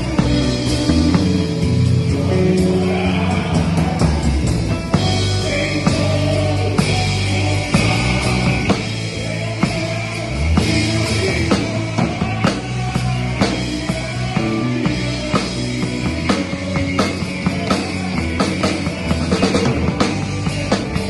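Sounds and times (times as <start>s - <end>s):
drum accents: 0.0s - 21.0s
live band playing gospel groove: 0.0s - 21.0s
sustained bass notes: 0.0s - 21.0s.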